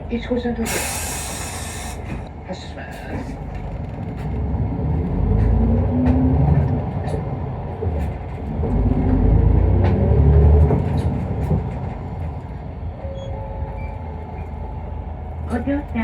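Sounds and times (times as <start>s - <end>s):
bus diesel engine accelerating: 0.0s - 16.0s
road rumble: 0.0s - 16.0s.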